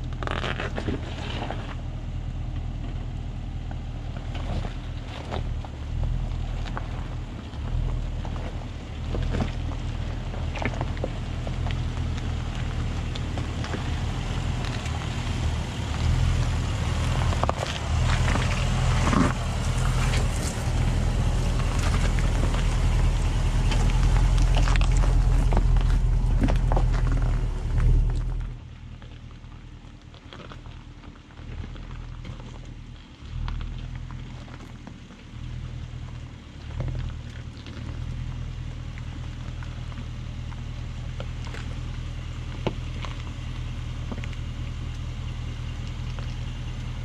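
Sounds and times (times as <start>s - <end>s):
car engine running low: 0.0s - 47.0s
tyres crunching over rocks: 0.0s - 47.0s.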